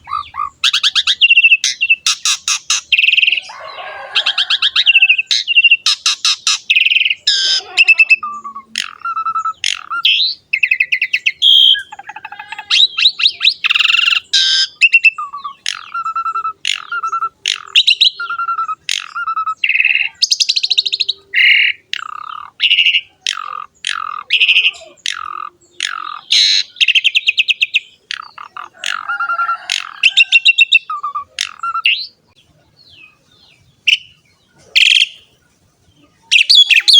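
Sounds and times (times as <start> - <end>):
starling singing: 0.0 - 36.9.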